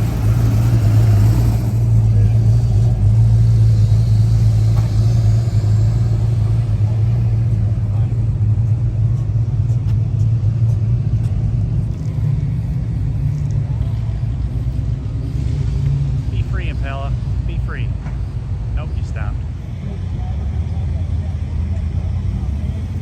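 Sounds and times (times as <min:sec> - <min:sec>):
car engine and road drone: 0:00.0 - 0:23.0.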